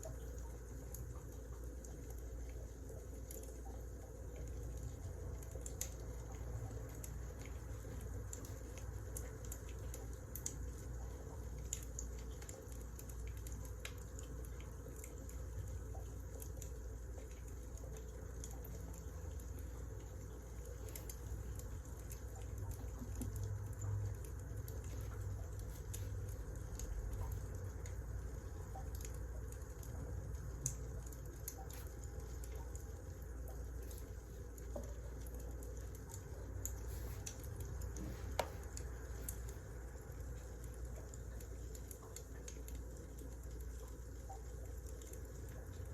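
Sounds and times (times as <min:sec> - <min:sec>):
low steady rumble: 0:00.0 - 0:45.9
wood fire crackling: 0:00.3 - 0:45.9.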